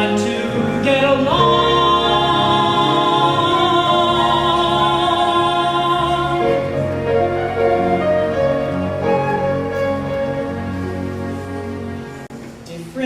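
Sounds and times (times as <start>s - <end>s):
orchestral accompaniment: 0.0s - 12.6s.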